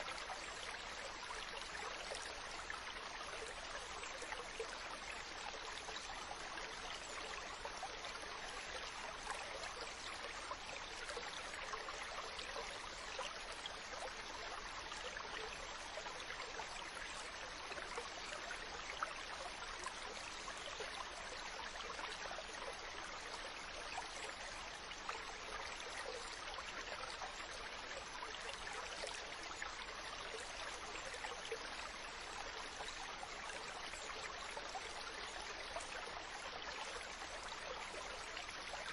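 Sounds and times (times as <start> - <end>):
stream burbling and trickling: 0.0 - 38.9.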